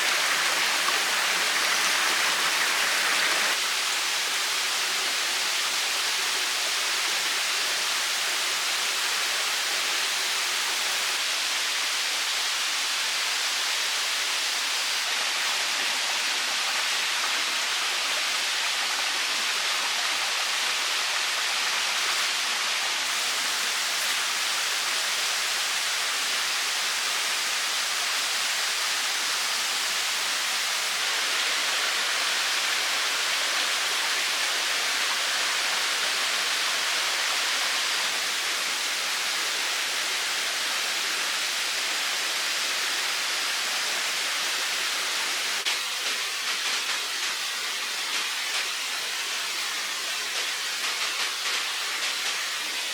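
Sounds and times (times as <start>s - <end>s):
running water: 0.0s - 52.9s.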